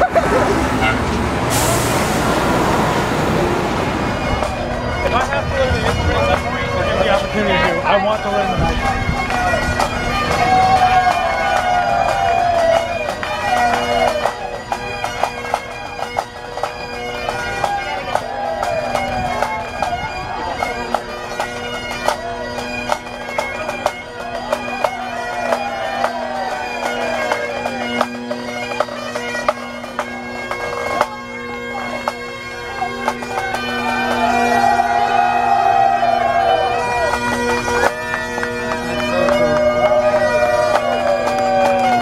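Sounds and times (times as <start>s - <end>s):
bagpipes playing: 0.0s - 42.0s.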